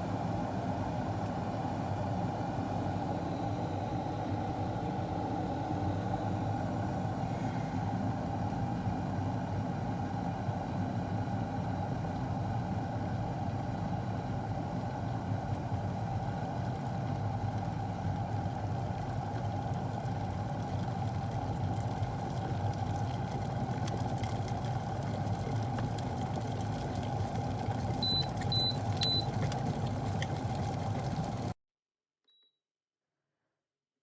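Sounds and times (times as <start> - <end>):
kettle heating water: 0.0 - 31.6.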